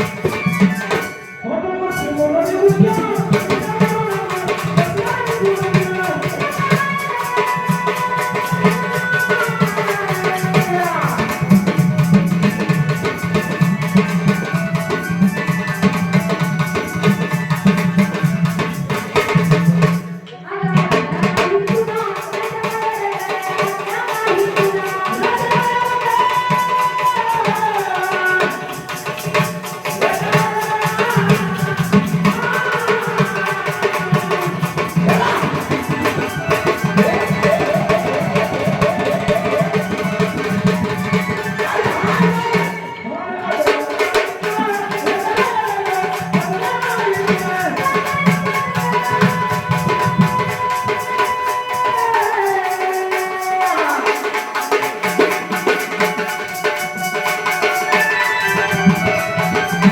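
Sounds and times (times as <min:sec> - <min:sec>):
rattling percussion: 0:00.0 - 0:59.9
tabla drum beat: 0:00.0 - 0:59.9
woman singing devotional song: 0:00.0 - 0:59.9.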